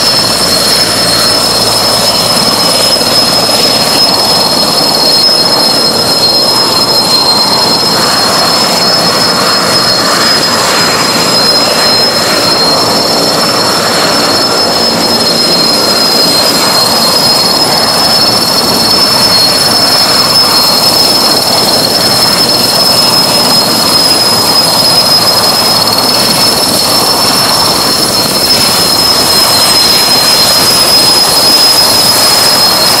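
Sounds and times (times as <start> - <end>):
helicopter engine whine: 0.0 - 33.0.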